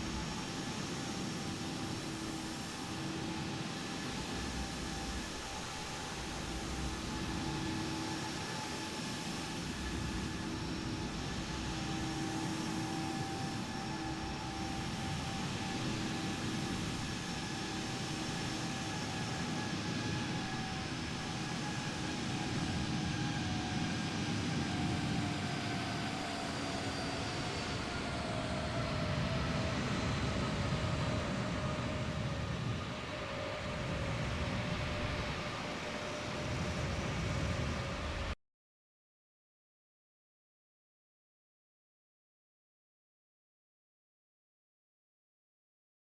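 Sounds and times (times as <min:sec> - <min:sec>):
jet engines running: 0:00.0 - 0:38.4.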